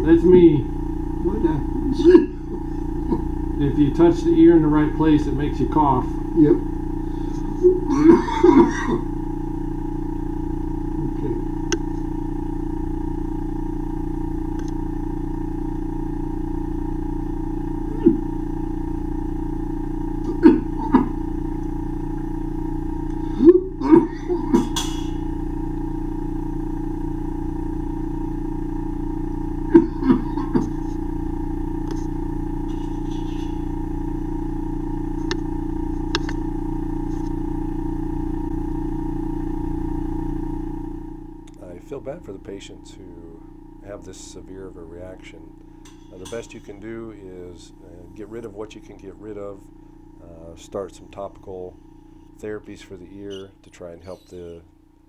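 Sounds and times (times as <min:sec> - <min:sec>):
vacuum pump humming: 0:00.0 - 0:55.0.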